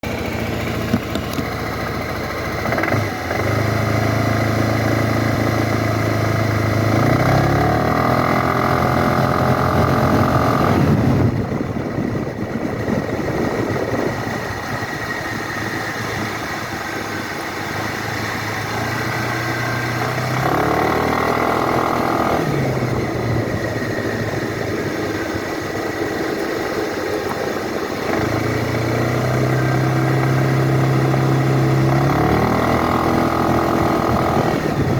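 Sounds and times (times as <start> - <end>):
scooter engine accelerating: 0.0 - 34.9.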